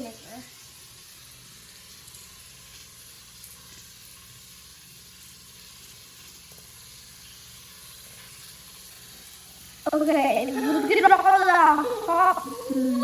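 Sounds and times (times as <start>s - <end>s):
foam fizzing: 0.0s - 13.0s.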